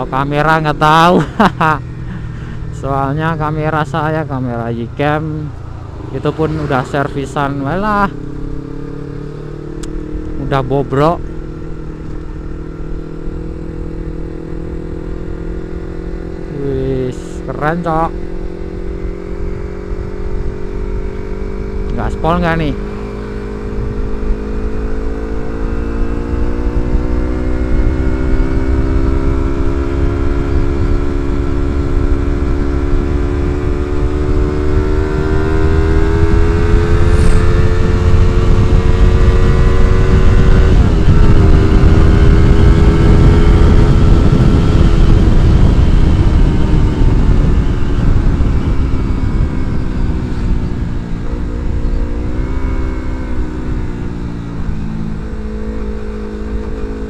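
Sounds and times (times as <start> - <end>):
wind rushing over microphone: 1.8 - 57.0.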